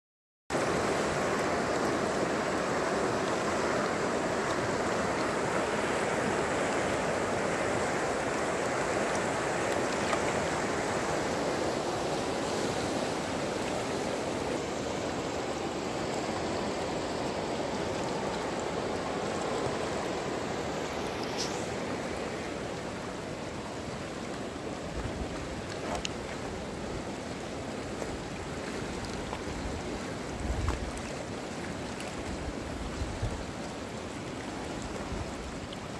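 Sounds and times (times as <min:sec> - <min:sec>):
river water rushing over stones: 0:00.5 - 0:35.9.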